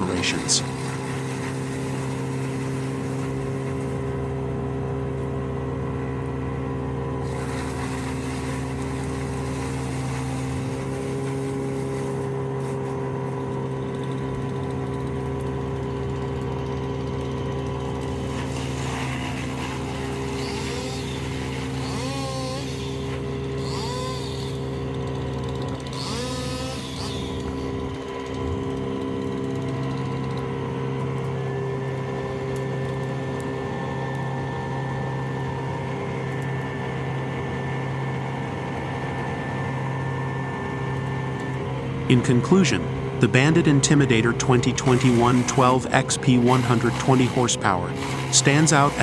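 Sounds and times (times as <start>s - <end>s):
wood chipper engine hum: 0.0s - 49.0s.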